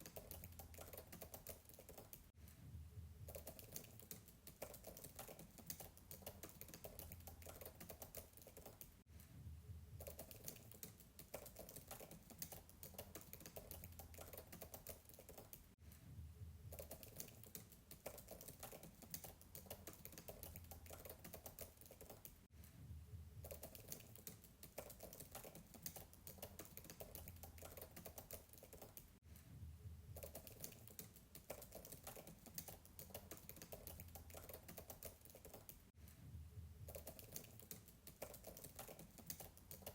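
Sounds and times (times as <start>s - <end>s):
fast typing on keyboard: 0.0s - 2.3s, 3.3s - 9.0s, 10.0s - 15.7s, 16.7s - 22.5s, 23.4s - 29.2s, 30.2s - 35.9s, 36.9s - 39.9s.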